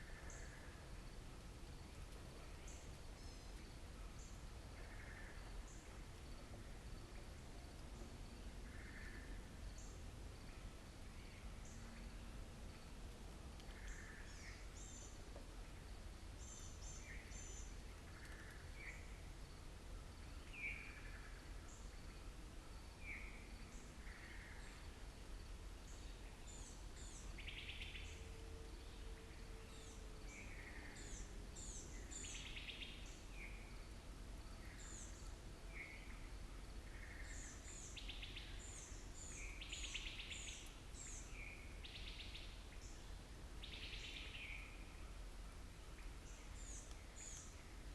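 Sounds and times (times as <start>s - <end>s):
low background rumble: 0.0s - 47.9s
wild birds chirping and trilling: 0.0s - 47.9s.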